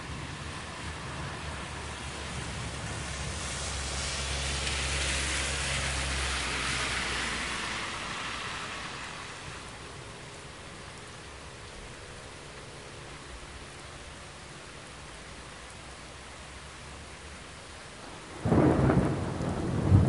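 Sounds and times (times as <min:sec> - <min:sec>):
car driving past on wet road: 0:00.0 - 0:11.9, 0:15.0 - 0:20.0
steady rain falling: 0:00.0 - 0:20.0.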